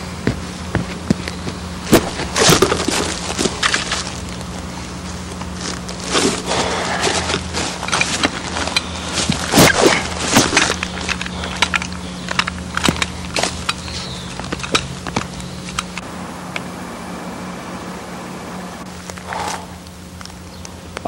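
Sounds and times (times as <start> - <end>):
steady low hum: 0.0 - 21.0
dry twigs crackling: 0.3 - 16.1, 18.9 - 21.0.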